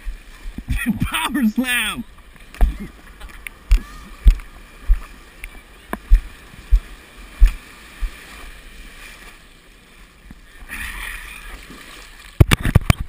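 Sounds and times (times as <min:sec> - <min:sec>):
ocean whitewater splashing: 0:00.0 - 0:13.0.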